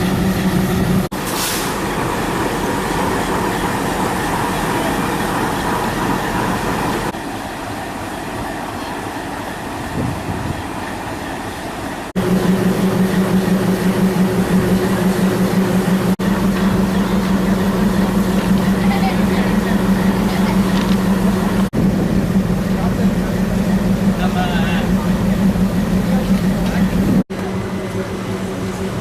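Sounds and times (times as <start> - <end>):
train running on rails: 0.0 - 29.0.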